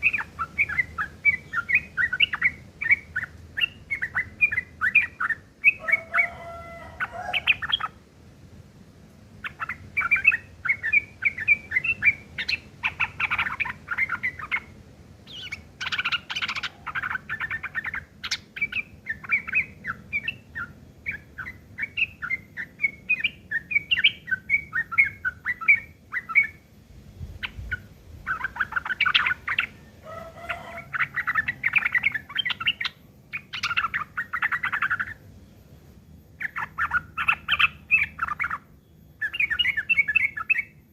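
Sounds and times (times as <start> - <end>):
bird chattering song: 0.0 - 8.0, 9.4 - 26.7, 27.3 - 40.9.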